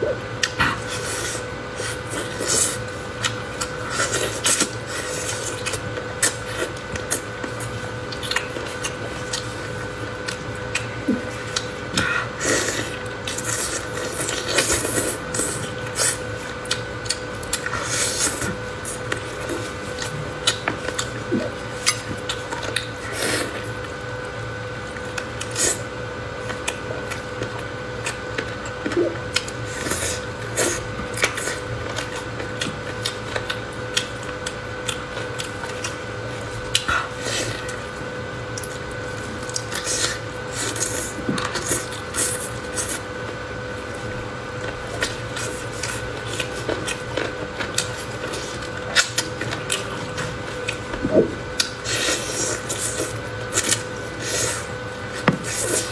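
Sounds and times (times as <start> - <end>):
chewing and mouth noises: 0.0 - 55.9.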